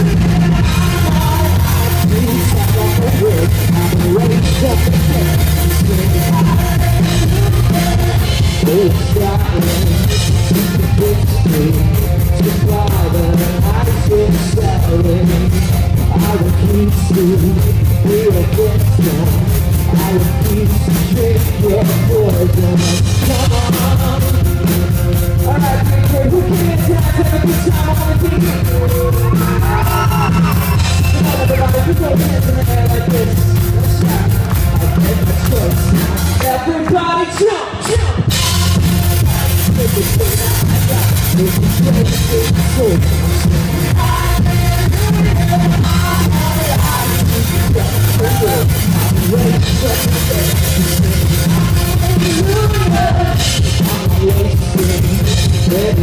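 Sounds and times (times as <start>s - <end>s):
lead vocal singing: 0.0s - 56.0s
live rock band playing: 0.0s - 56.0s.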